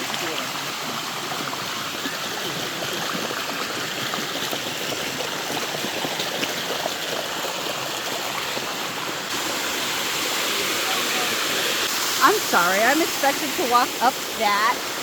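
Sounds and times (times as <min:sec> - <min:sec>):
waterfall rushing over rock: 0:00.0 - 0:15.0.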